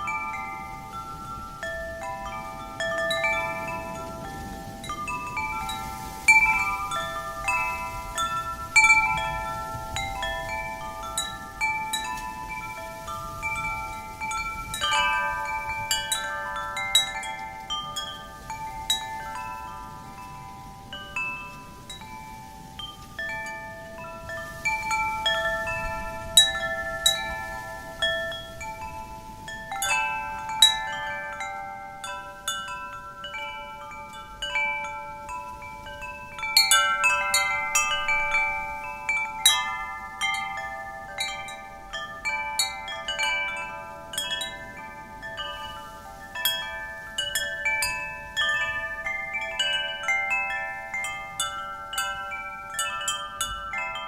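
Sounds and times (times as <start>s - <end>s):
wind chimes ringing: 0.0s - 54.0s.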